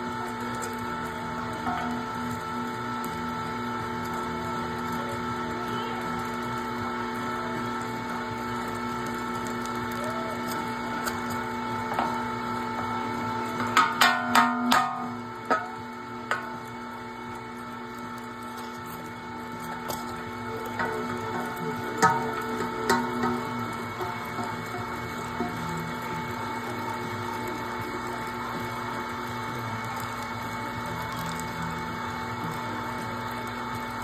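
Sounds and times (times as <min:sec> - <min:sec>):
electric meat grinder humming: 0:00.0 - 0:34.0.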